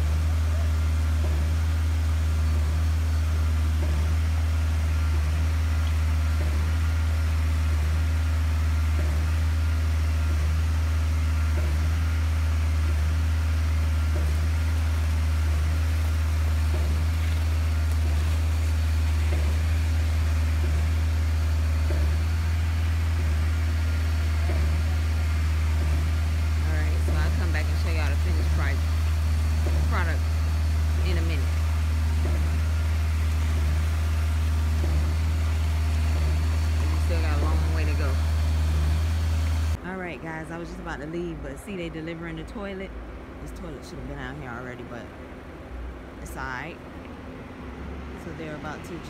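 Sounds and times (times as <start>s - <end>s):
pump engine droning: 0.0s - 49.0s.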